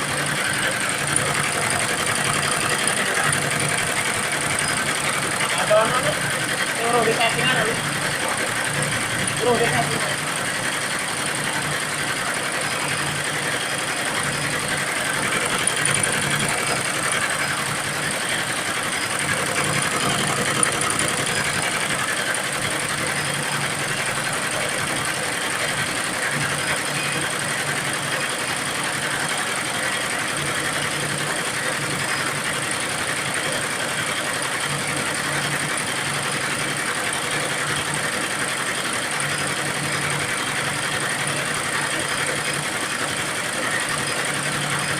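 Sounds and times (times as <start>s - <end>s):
embroidery machine stitching: 0.0s - 44.9s.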